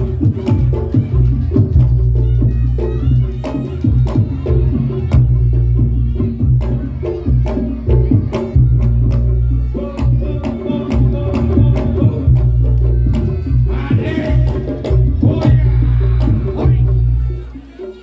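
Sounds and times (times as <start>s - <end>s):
heavy deep drumming: 0.0s - 17.4s.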